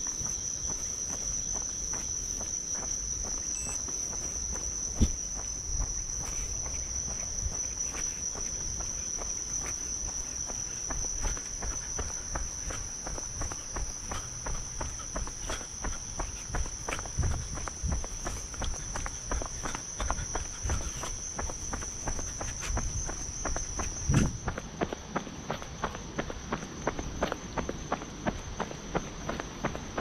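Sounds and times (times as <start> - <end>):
insect chirring: 0.0 - 30.0.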